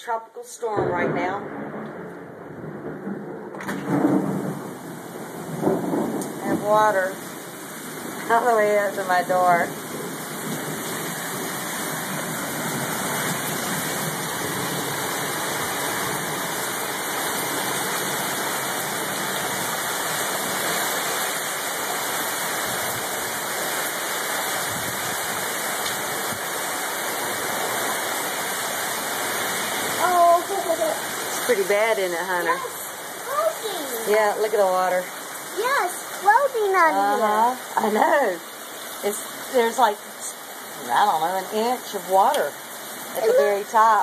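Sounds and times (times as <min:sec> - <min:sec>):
heavy rain downpour: 0:00.0 - 0:44.0.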